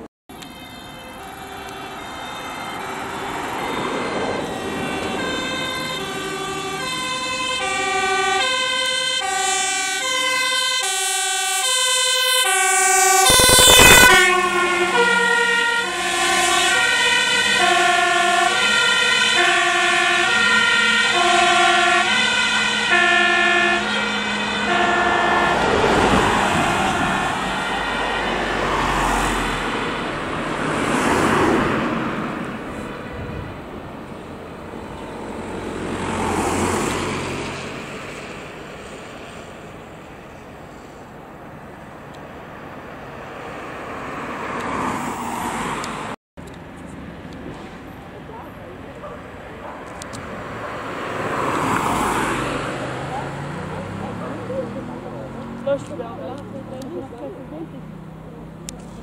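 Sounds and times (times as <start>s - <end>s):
truck passing rush: 0.0s - 59.0s
fire engine two-tone siren: 0.3s - 40.0s, 48.4s - 56.9s.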